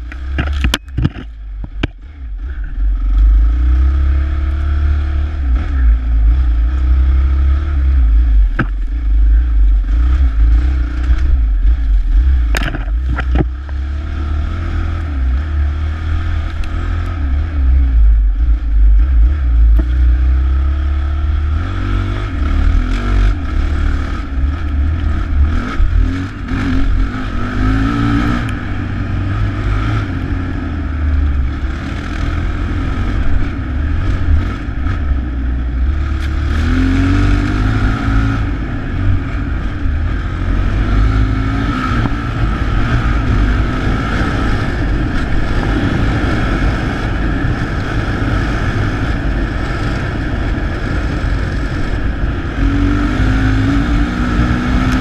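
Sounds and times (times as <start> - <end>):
heavy low rumble: 0.0 - 55.0
dirt bike engine revving: 2.4 - 55.0.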